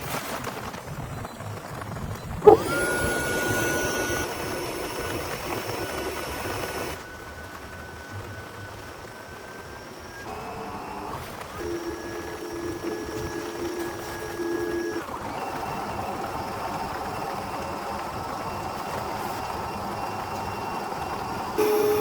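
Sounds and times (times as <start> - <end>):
electric air pump whining: 2.4 - 22.0.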